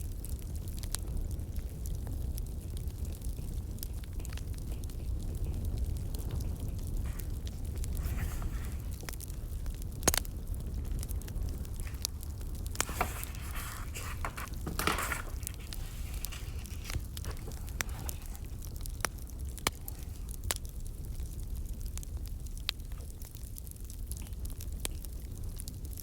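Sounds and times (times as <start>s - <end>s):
firewood crackling: 0.0s - 26.0s
fire hiss: 1.7s - 25.9s.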